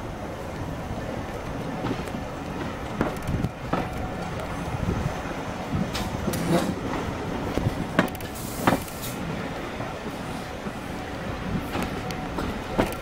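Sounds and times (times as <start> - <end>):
rumble of wheels on rail: 0.0 - 13.0
wheels clacking over track: 1.3 - 4.7, 5.6 - 13.0.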